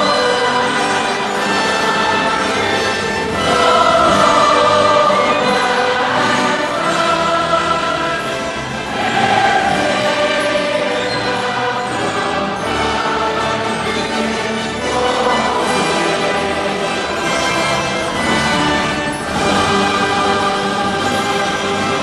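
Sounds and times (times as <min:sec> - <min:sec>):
choir singing held chords: 0:00.0 - 0:22.0.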